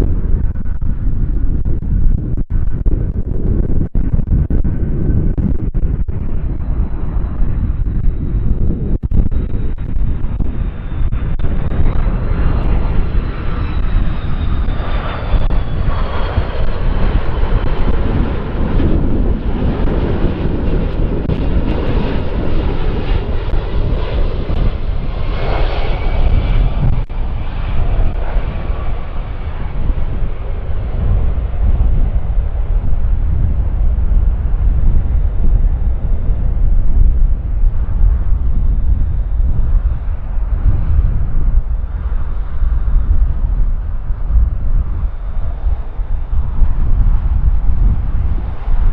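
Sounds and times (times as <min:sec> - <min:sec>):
wind rumble on microphone: 0:00.0 - 0:48.9
jet engines whining: 0:06.1 - 0:48.9.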